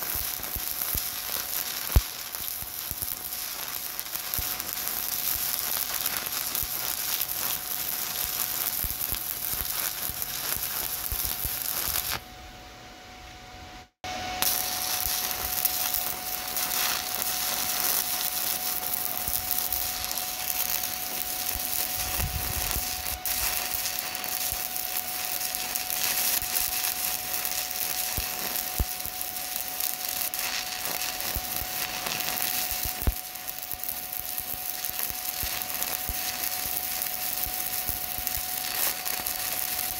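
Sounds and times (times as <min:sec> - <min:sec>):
welding arc crackling: 0:00.0 - 0:12.2, 0:14.4 - 0:39.9
faint steady whine: 0:00.0 - 0:39.9.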